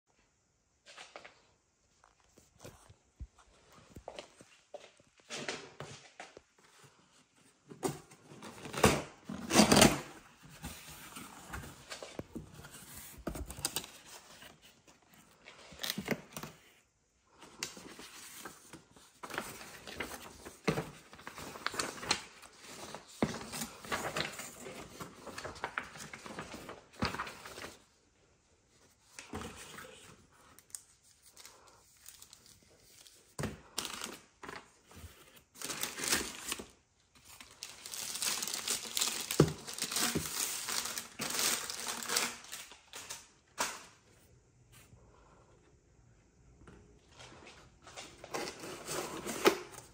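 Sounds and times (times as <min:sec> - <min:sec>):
paper rustling and crinkling: 0:00.9 - 0:28.0, 0:28.7 - 0:44.0.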